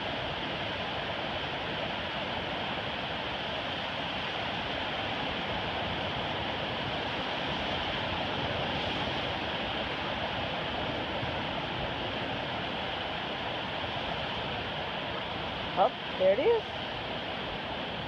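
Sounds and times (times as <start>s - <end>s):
small waves breaking on beach: 0.0s - 18.0s.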